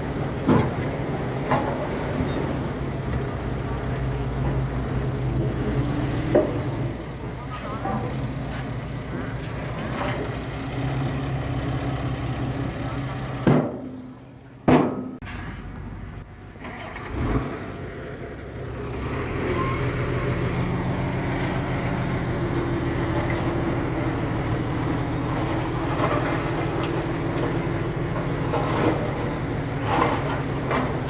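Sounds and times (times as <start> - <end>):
diesel earthmoving machine running: 0.0 - 31.0.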